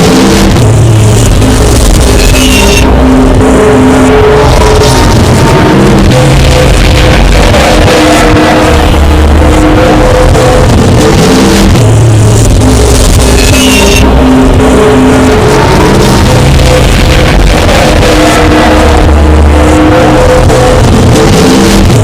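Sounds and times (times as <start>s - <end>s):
distorted droning tones: 0.0s - 22.0s
noisy rumble: 0.0s - 22.0s.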